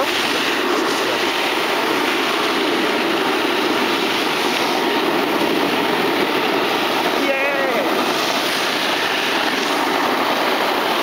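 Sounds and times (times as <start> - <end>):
snowboards sliding over snow: 0.0 - 11.0.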